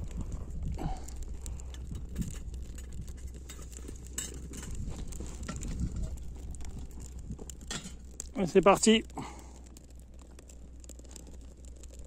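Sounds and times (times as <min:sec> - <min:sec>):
twig fire crackling in stove: 0:00.0 - 0:12.0.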